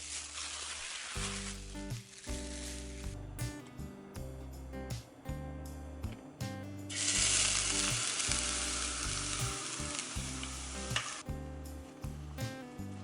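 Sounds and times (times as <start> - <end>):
soft background music: 1.2 - 13.0.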